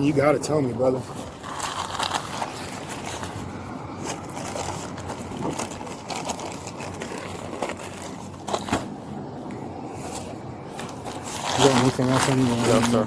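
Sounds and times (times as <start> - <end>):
clothing rustling on microphone: 0.9 - 13.0.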